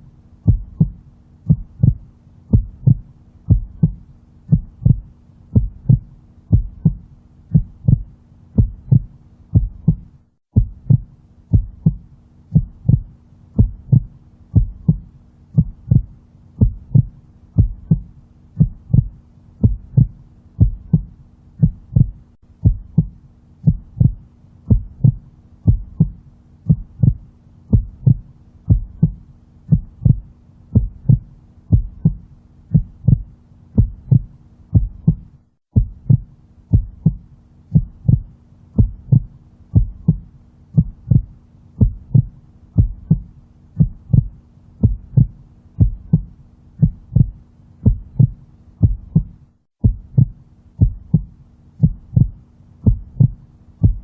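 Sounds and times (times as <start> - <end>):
faint steady hum: 0.0 - 54.0
heartbeat thumps: 0.4 - 54.0.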